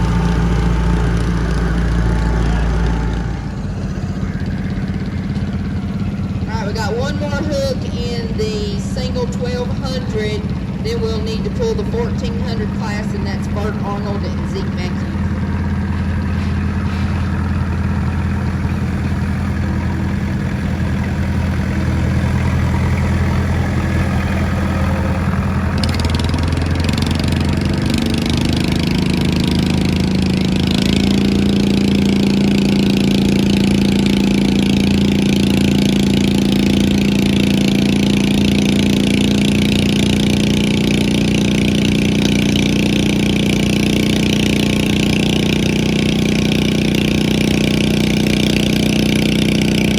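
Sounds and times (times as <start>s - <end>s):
lawn mower engine revving: 0.0s - 49.9s.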